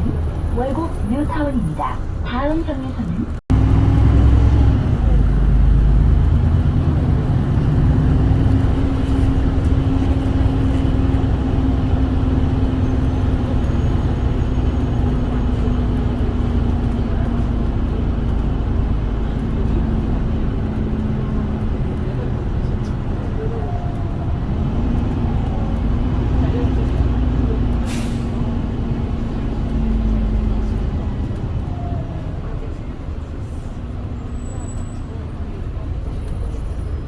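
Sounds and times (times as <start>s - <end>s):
bus engine humming: 0.0s - 37.0s
road noise: 0.0s - 37.0s.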